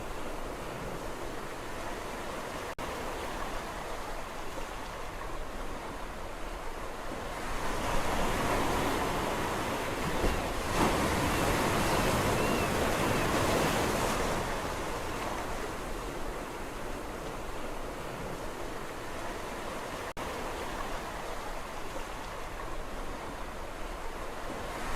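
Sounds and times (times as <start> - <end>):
sea waves on a shore: 0.0 - 24.9.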